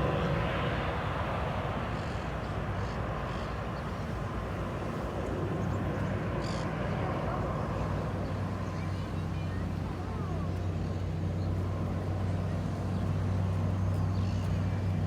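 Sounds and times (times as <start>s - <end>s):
aircraft engine rumble: 0.0s - 15.0s.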